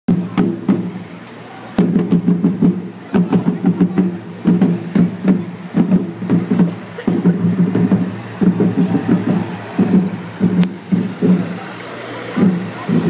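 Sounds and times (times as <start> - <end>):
marching band drum strikes: 0.1 - 13.0.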